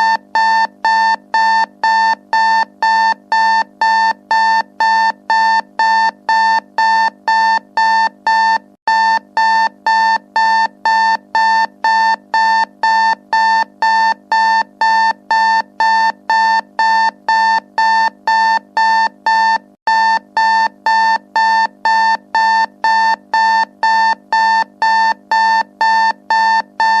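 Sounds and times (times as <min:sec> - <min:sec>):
digital timer alarm beeping: 0:00.0 - 0:27.0.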